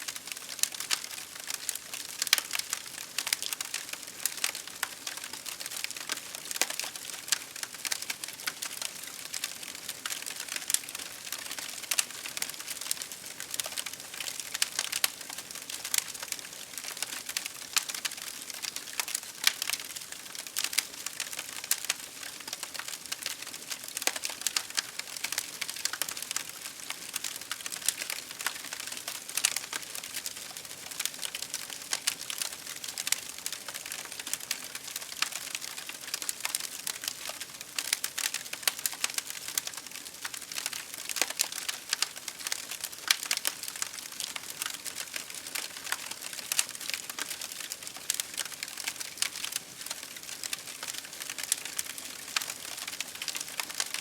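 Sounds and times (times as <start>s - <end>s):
campfire crackling: 0.1s - 54.0s.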